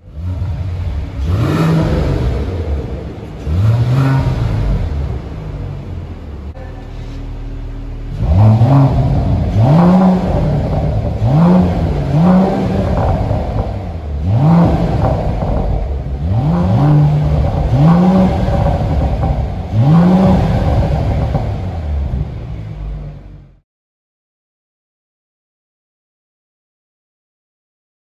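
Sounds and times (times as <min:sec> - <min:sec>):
car engine revving: 0:00.0 - 0:23.6.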